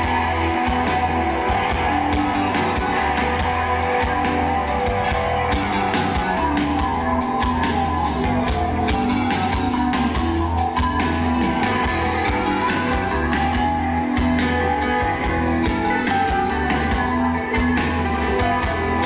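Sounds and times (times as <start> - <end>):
bass notes: 0.0 - 19.0
electric guitar: 0.0 - 19.0
steady drumbeat: 0.0 - 19.0.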